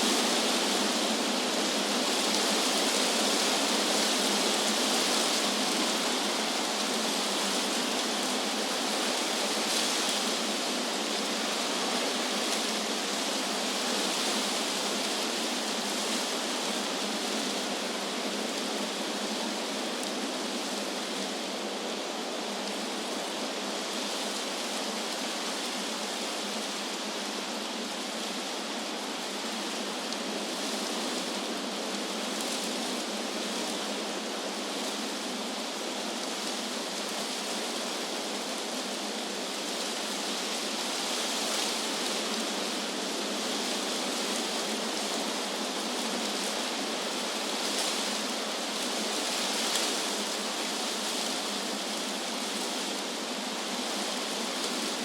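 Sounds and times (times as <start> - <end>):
wind blowing through trees: 0.0 - 55.0.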